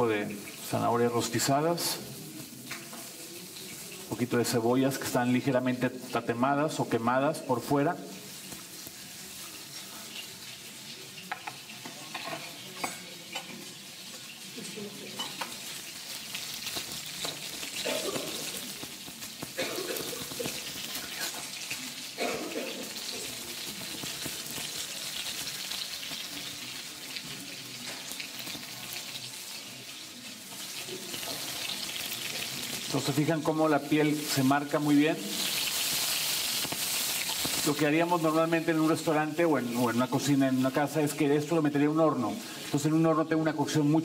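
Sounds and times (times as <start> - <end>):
meat sizzling in a pan: 0.0 - 44.0.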